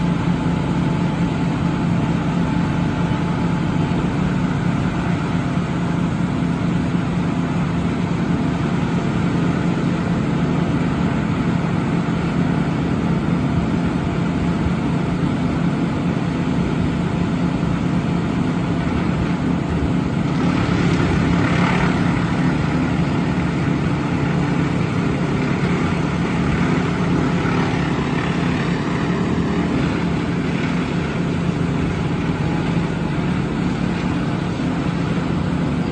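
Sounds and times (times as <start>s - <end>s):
diesel truck engine droning: 0.0s - 35.9s.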